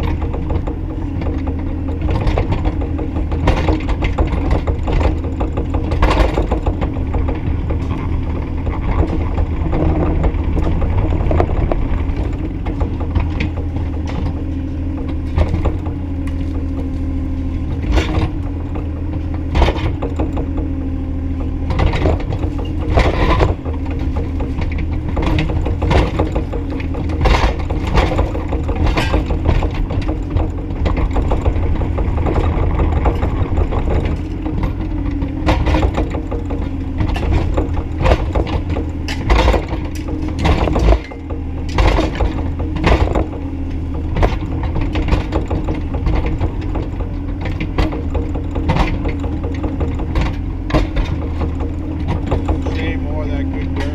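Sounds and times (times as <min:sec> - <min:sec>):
diesel engine running under load: 0:00.0 - 0:53.9
excavator bucket clanks and knocks: 0:00.0 - 0:53.9.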